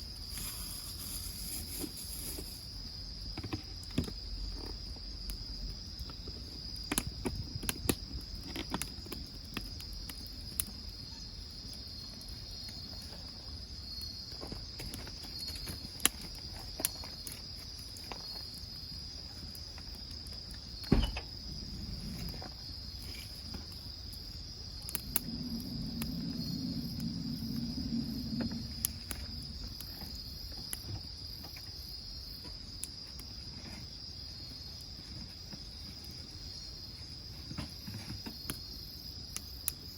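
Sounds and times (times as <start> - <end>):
crickets trilling: 0.0 - 39.9
firewood crackling and popping: 0.0 - 39.9.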